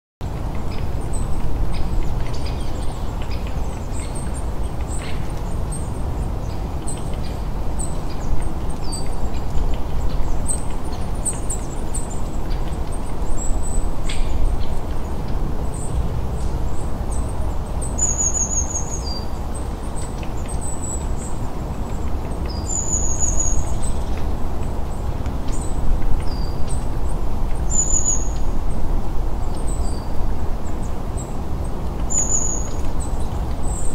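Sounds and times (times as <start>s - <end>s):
small birds chirping: 0.2s - 28.8s, 29.4s - 33.9s
low rushing background noise: 0.2s - 33.9s.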